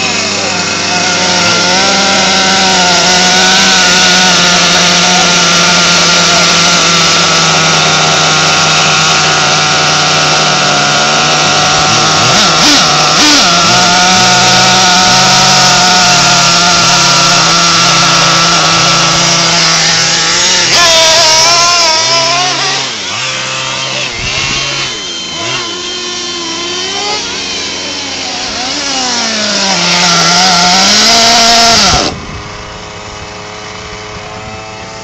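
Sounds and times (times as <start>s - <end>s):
small nitro engine revving: 0.0s - 35.0s.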